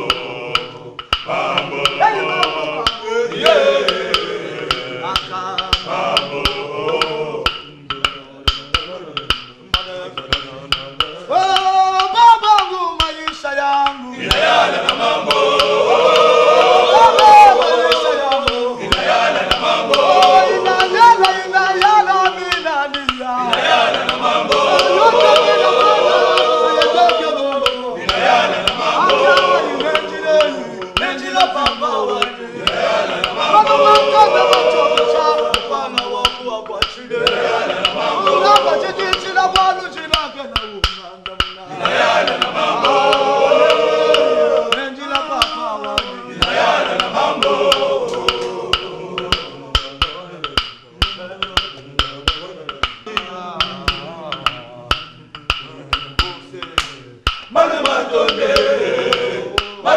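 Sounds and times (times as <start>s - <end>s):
choir singing: 0.0s - 59.9s
sharp percussive clicks: 0.0s - 59.9s.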